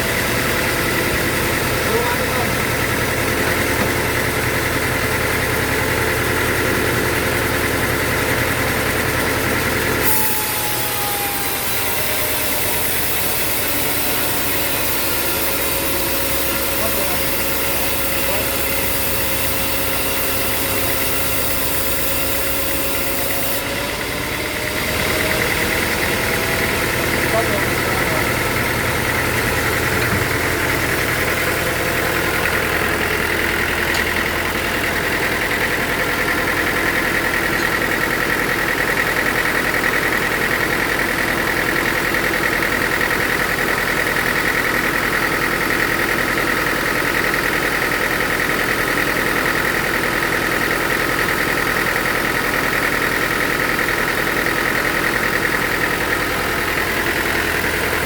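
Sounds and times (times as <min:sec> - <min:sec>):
engine drone: 0:00.0 - 0:58.0
high machinery whine: 0:00.0 - 0:58.0.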